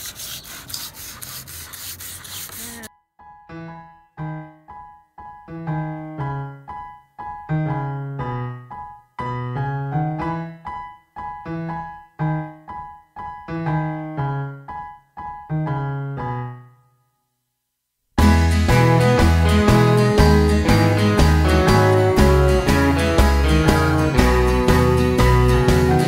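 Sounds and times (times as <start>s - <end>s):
piano music: 3.2s - 17.0s, 18.2s - 26.0s.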